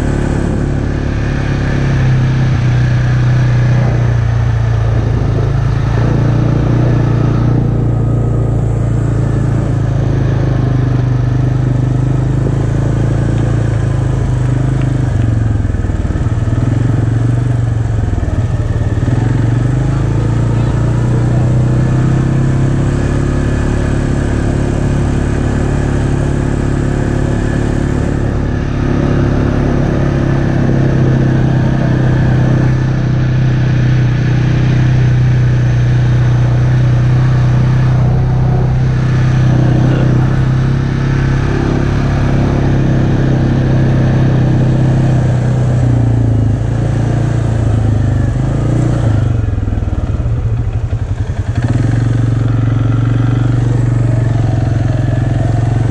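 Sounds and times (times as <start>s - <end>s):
atv engine running: 0.0s - 55.9s
wind: 0.0s - 55.9s.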